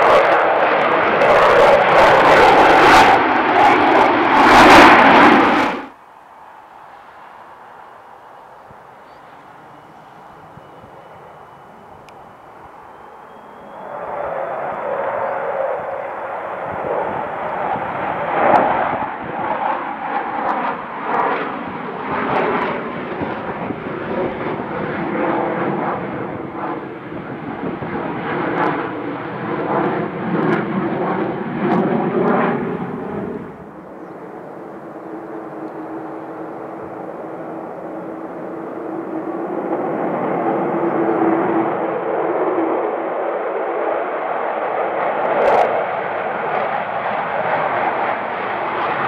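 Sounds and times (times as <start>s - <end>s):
jet aircraft flying overhead: 0.0s - 49.0s.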